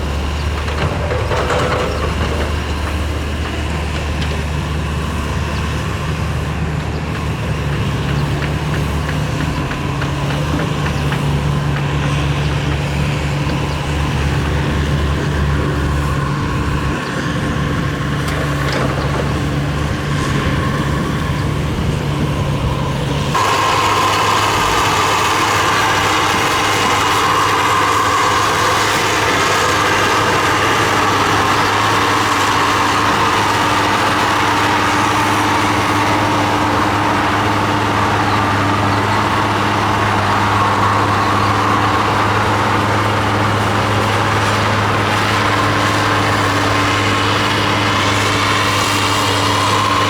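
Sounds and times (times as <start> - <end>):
heavy diesel machinery engine droning: 0.0 - 50.0.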